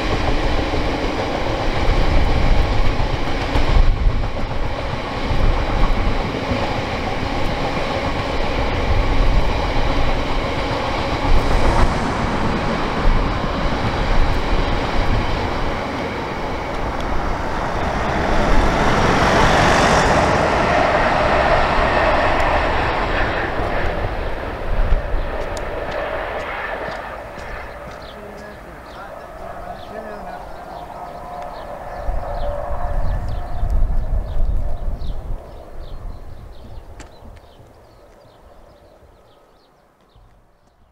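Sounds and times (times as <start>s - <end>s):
passenger train rushing by: 0.0s - 40.0s
freight train rumbling past: 0.0s - 40.9s.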